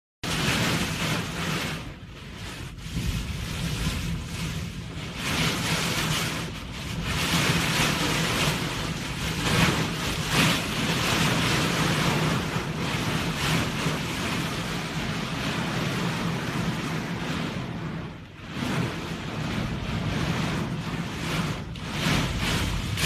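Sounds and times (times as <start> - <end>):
heavy driving rain: 0.2 - 23.0
storm wind: 0.2 - 23.0
wind buffeting microphone: 0.3 - 23.0.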